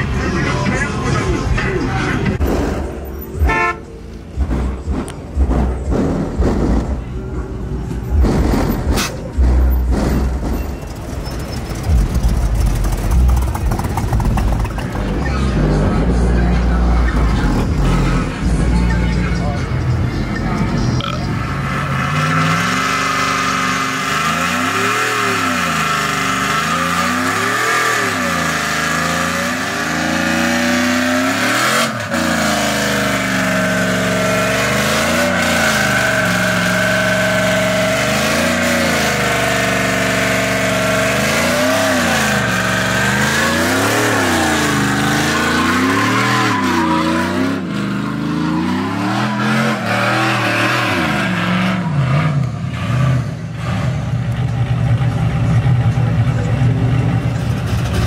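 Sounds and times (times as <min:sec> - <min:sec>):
truck engine revving: 0:00.0 - 0:58.0
tyres spinning and screeching: 0:04.2 - 0:58.0.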